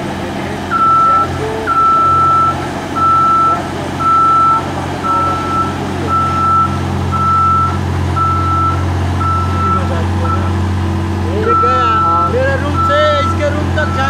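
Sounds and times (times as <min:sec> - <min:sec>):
engine running: 0:00.0 - 0:14.0
warning beeper: 0:00.7 - 0:10.7, 0:11.3 - 0:14.0.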